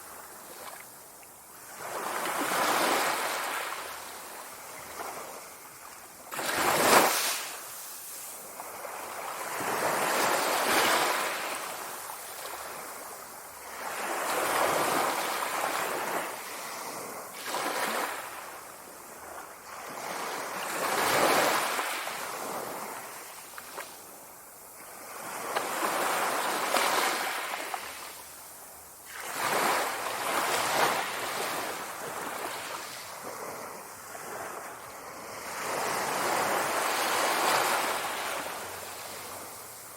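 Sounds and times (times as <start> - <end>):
sea waves washing in: 1.6 - 39.9.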